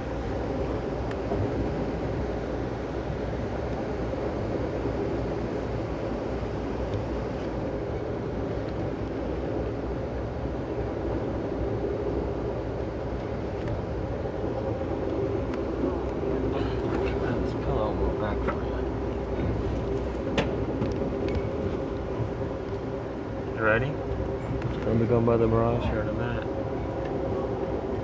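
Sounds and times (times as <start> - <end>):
train rolling rumble: 0.0 - 28.0.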